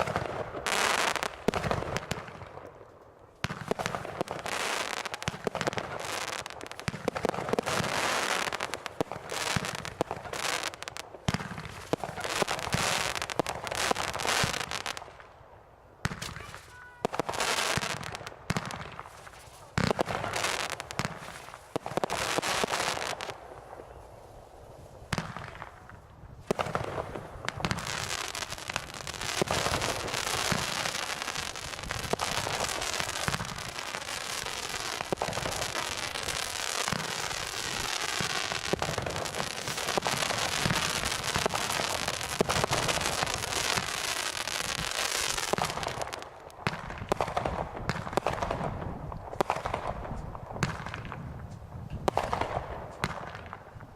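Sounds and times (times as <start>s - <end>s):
firework bangs: 0.0s - 2.6s, 3.4s - 15.1s, 16.0s - 24.1s, 25.0s - 53.9s
fireworks crackling with rapid pops: 0.0s - 15.3s, 16.0s - 53.9s.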